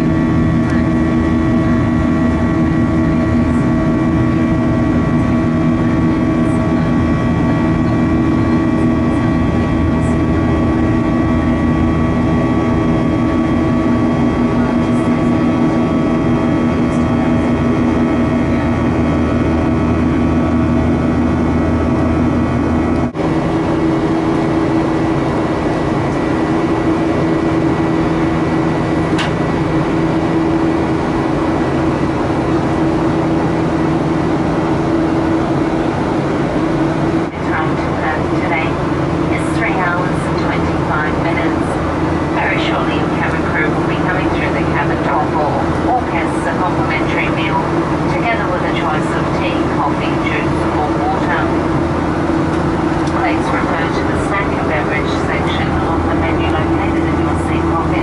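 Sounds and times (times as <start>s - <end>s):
hum tones: 0.0s - 58.0s
jet engine drone: 0.0s - 58.0s.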